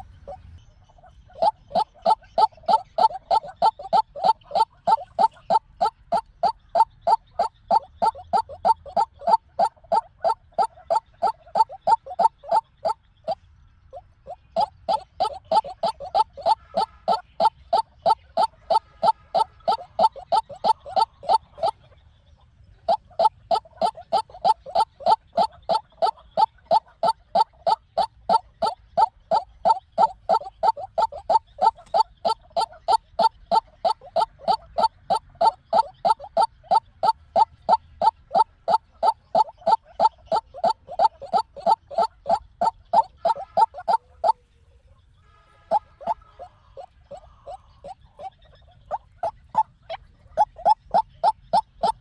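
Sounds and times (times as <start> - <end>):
waterhen calling: 0.0 - 22.1, 22.7 - 52.0.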